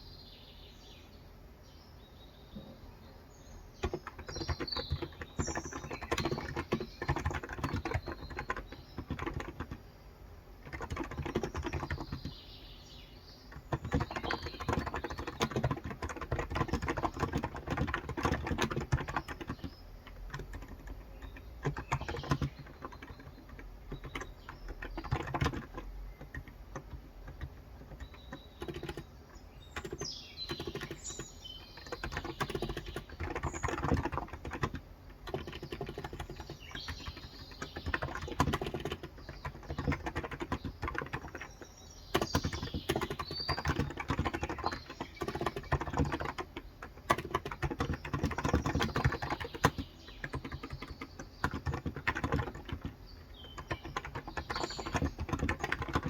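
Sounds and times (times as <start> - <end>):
birds chirping faintly: 0.0 - 56.0
soft keyboard typing: 3.8 - 9.9, 10.6 - 12.4, 13.5 - 56.0.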